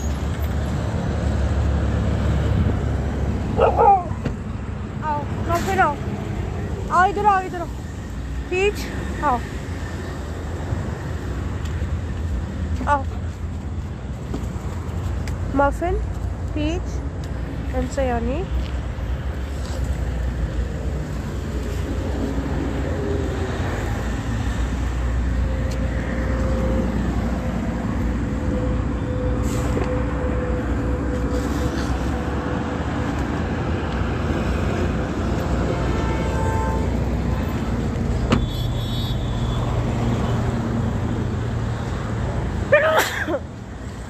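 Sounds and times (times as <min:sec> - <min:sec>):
motor vehicle rumbling: 0:00.0 - 0:44.0.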